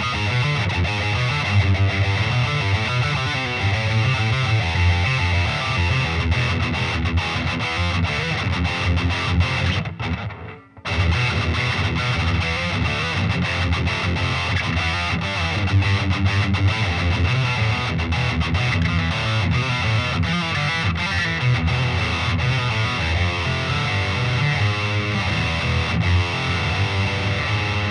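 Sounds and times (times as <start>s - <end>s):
distorted electric guitar riffing: 0.0s - 27.9s.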